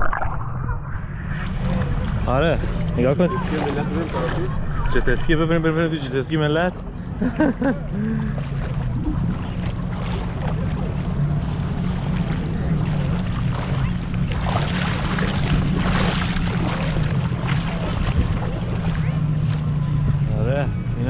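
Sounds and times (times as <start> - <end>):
jet ski engine droning: 0.0 - 21.0.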